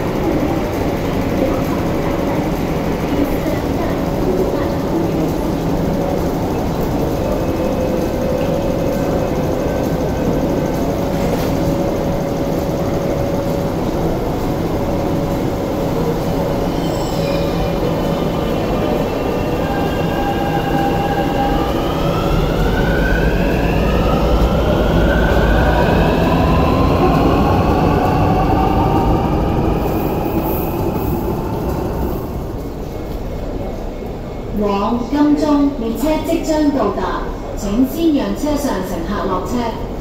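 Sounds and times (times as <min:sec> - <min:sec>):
train rumble: 0:00.0 - 0:40.0
train wheel noise: 0:00.0 - 0:40.0.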